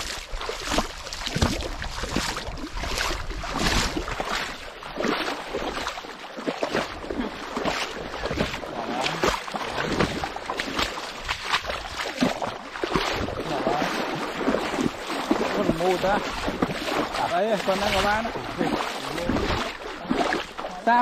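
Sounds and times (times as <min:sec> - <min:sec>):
pond water splashing: 0:00.0 - 0:21.0.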